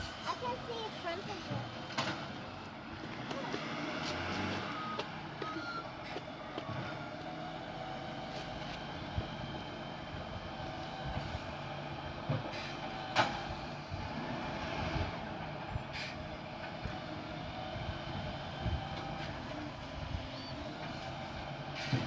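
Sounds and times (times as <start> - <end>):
garbage truck running: 0.0 - 22.0.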